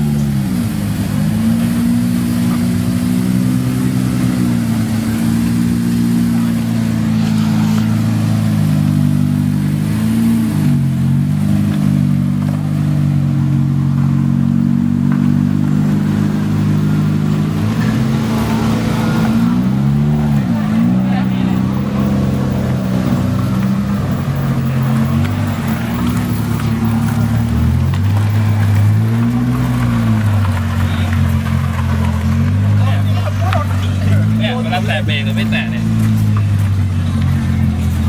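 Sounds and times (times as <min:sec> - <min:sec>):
car engine driving past: 0:00.0 - 0:38.0.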